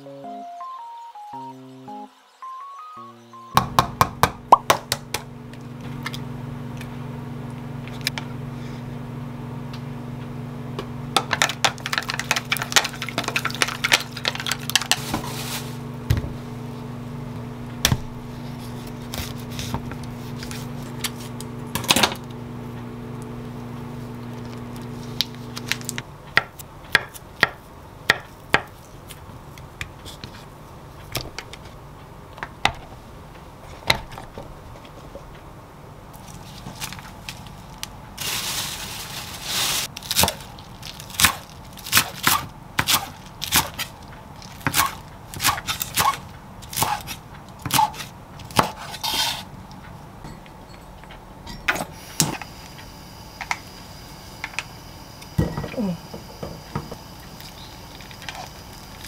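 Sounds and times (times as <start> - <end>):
kitchen appliance humming: 3.6 - 28.6, 30.6 - 59.0.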